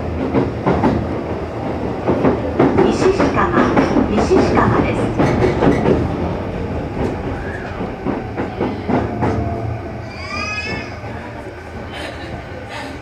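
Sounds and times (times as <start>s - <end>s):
train rumble from inside car: 0.0s - 13.0s.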